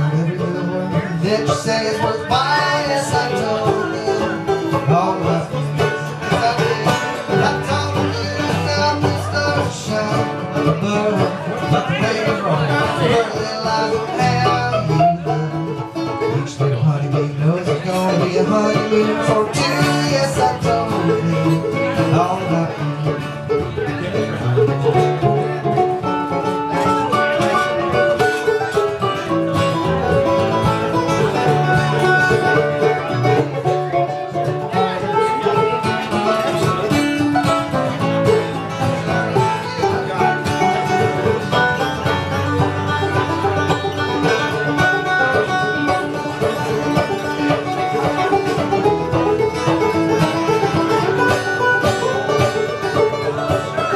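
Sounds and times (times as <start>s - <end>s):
acoustic guitar: 0.0s - 53.9s
banjo: 0.0s - 53.9s
mandolin: 0.0s - 53.9s.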